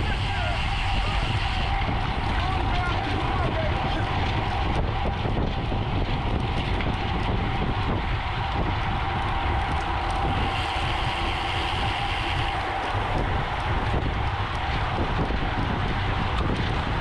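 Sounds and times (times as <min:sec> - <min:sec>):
tyre and drivetrain hum: 0:00.0 - 0:17.0
wind rushing over microphone: 0:00.0 - 0:17.0.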